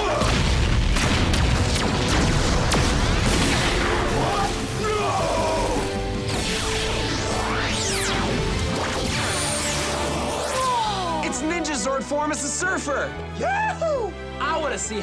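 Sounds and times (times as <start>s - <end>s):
action music: 0.0s - 15.0s.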